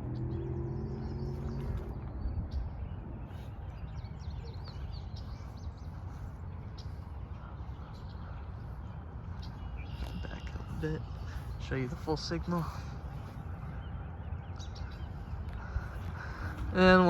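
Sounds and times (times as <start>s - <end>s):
low hum: 0.0s - 17.0s
small birds chirping: 0.0s - 17.0s
steady low rumble: 0.0s - 17.0s.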